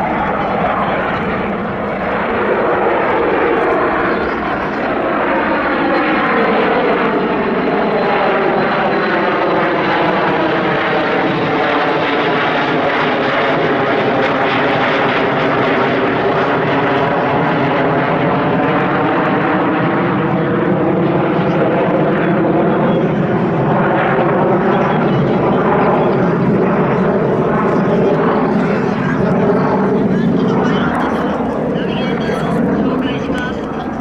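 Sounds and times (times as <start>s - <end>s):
jet engines passing overhead: 0.0s - 34.0s.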